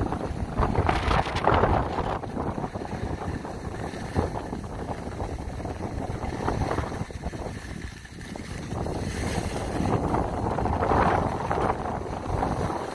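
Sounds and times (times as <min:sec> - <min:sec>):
skis scraping over snow: 0:00.0 - 0:12.9
wind buffeting microphone: 0:00.0 - 0:12.9.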